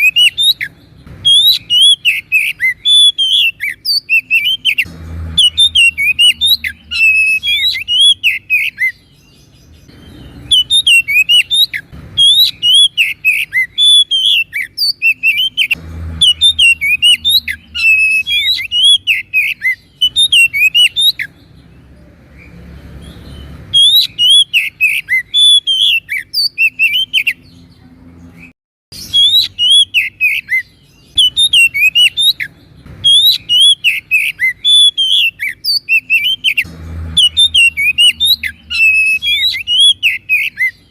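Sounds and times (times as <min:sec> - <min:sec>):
bird song with chirps and whistles: 0:00.0 - 0:40.9.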